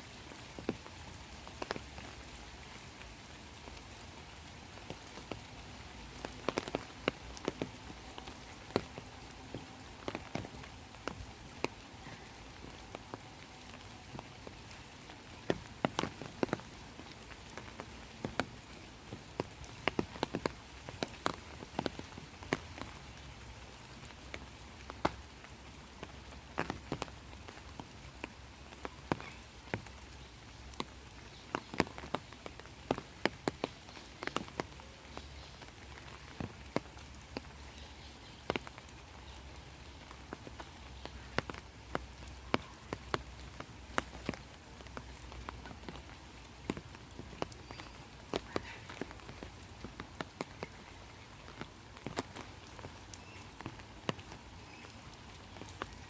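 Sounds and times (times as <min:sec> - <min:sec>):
rain falling: 0:00.0 - 0:56.0
raindrops tapping: 0:00.0 - 0:56.0.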